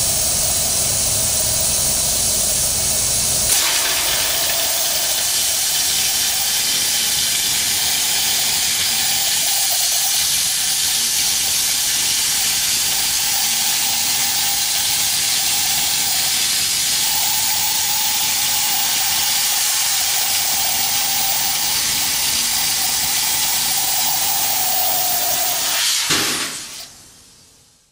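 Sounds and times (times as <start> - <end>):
plasma torch hissing: 3.1 - 27.2.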